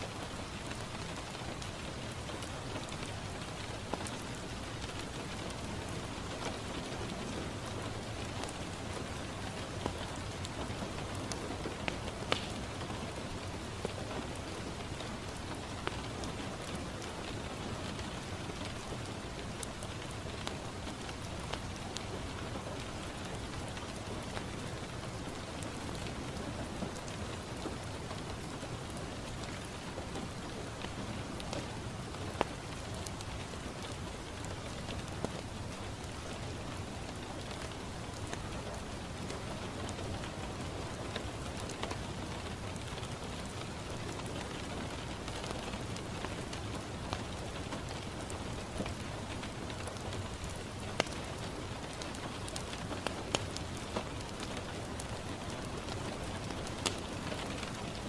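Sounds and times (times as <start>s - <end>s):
rain falling on a window: 0.0s - 58.0s
wood fire crackling: 0.0s - 58.0s.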